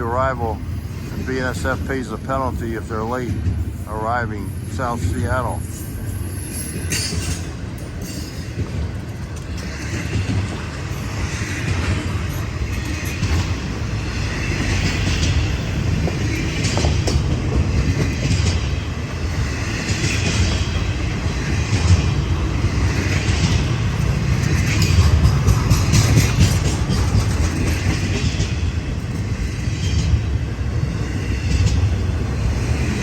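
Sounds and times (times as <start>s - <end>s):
rising and falling rail noise: 0.0s - 33.0s
train wheels rumbling on rail: 0.0s - 33.0s.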